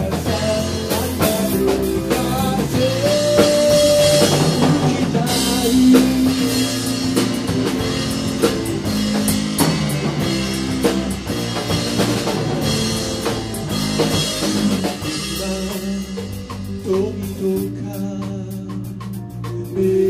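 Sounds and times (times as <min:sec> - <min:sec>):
bass: 0:00.0 - 0:20.0
drum kit: 0:00.0 - 0:20.0
guitar: 0:00.0 - 0:20.0
rock band playing: 0:00.0 - 0:20.0.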